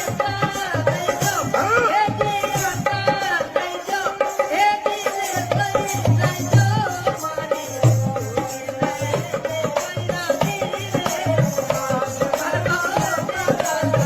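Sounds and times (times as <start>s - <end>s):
drum beats: 0.0s - 14.0s
person singing folk melody: 0.0s - 14.0s.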